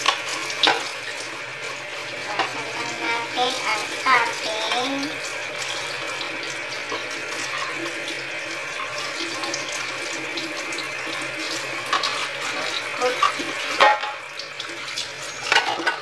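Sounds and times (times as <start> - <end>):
tap running into metal sink: 0.0 - 1.2, 2.3 - 16.0.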